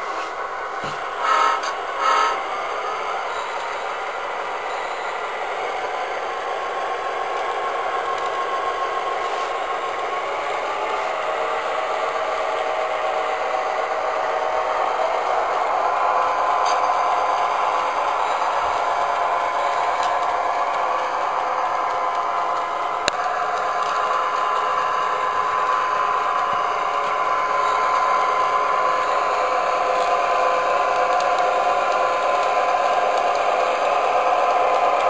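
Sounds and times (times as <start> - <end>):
diesel engine sound from speaker: 0.0 - 35.0.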